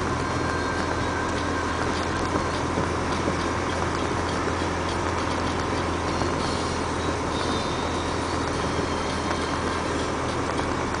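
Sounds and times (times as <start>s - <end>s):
truck diesel engine drone: 0.0s - 11.0s.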